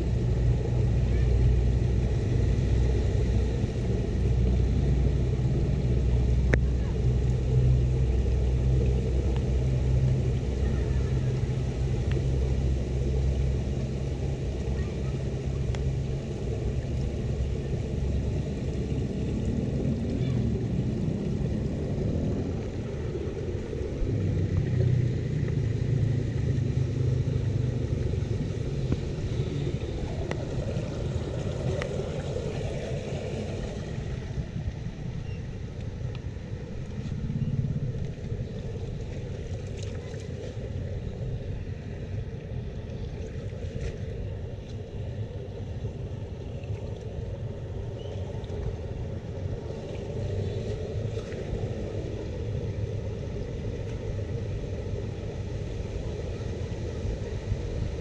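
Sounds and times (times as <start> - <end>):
water gushing from a drain: 0.0 - 58.0.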